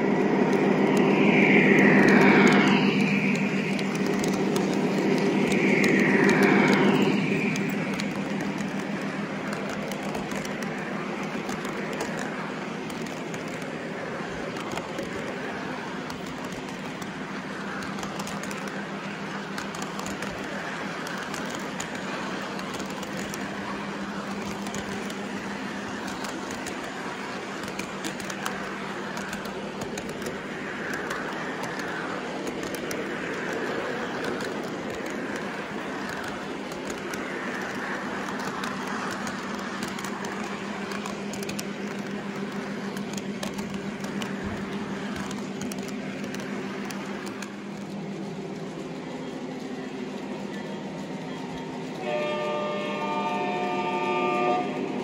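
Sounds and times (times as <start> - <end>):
constant low hum: 0.0 - 55.0
train wheels clattering over rail joints: 0.0 - 55.0.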